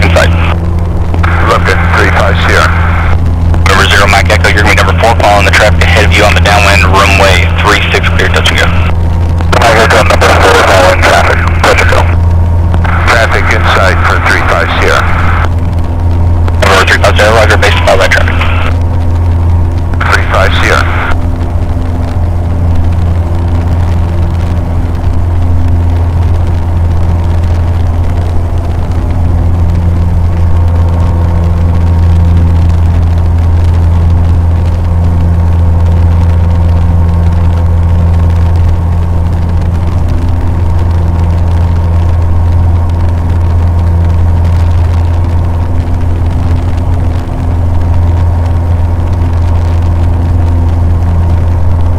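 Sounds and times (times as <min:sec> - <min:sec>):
light aircraft engine droning: 0:00.0 - 0:51.9.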